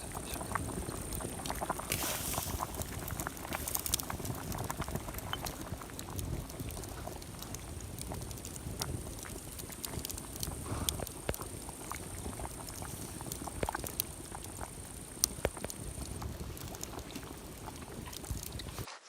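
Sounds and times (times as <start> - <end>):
campfire crackling and popping: 0.0 - 18.9.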